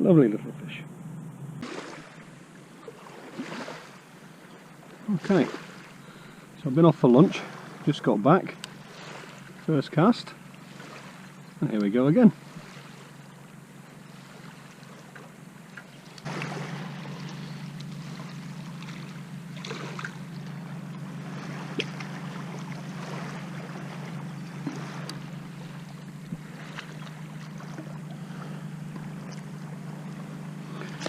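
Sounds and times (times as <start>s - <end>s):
steady low hum: 0.0s - 31.0s
water splashing and lapping: 1.6s - 31.0s.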